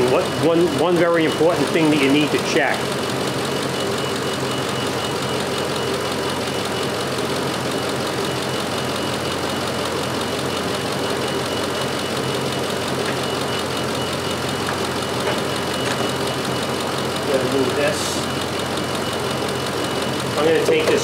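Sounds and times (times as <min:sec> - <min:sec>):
fan belt running: 0:00.0 - 0:21.0
truck engine idling: 0:00.0 - 0:21.0.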